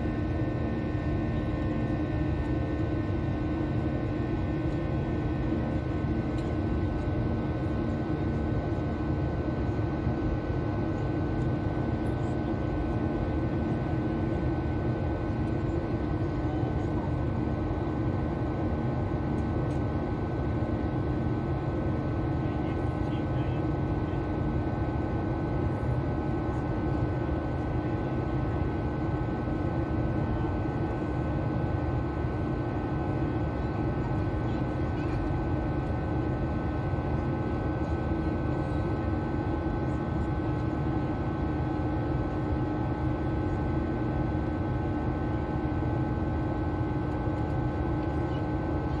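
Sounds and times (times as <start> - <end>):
airliner cabin drone: 0.0 - 49.0.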